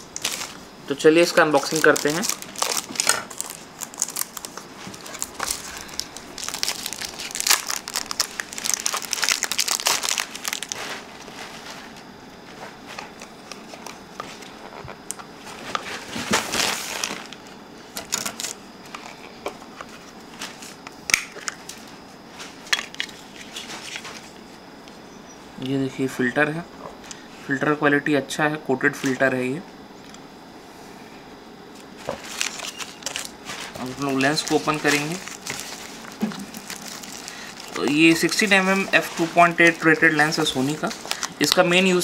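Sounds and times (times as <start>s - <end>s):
plastic packaging crinkling: 0.0s - 24.4s, 31.8s - 42.0s.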